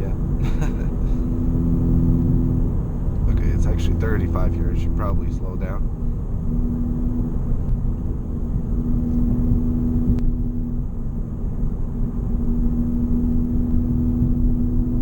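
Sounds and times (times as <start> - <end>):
car exhaust drone: 0.0 - 15.0
road noise rumble: 0.0 - 15.0.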